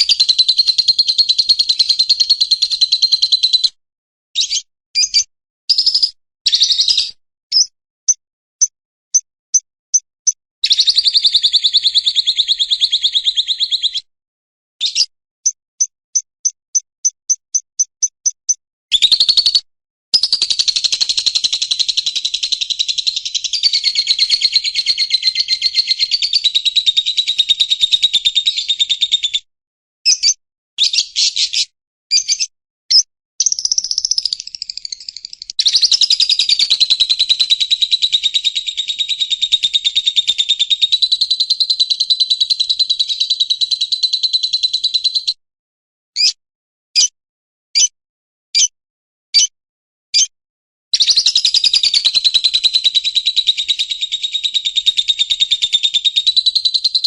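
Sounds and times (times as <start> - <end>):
bird singing whistled notes: 0.0 - 3.8, 4.4 - 10.0, 10.6 - 14.1, 14.8 - 29.5, 30.1 - 45.4, 51.0 - 57.0
bird trill: 0.0 - 3.8, 4.4 - 8.7, 10.6 - 14.1, 14.8 - 29.5, 30.1 - 45.4, 46.2 - 46.4, 51.0 - 57.0.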